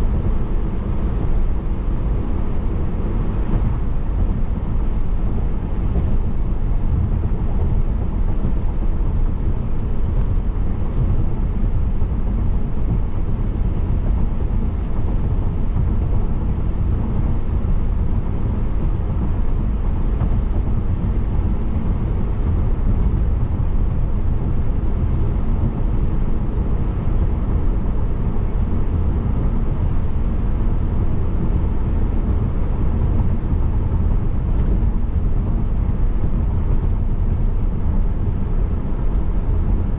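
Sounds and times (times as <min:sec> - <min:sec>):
car road noise from inside: 0:00.0 - 0:39.9.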